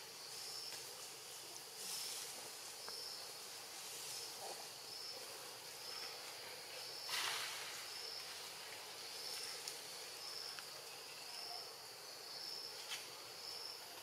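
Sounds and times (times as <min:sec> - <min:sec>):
steady insect hiss: 0:00.0 - 0:14.0.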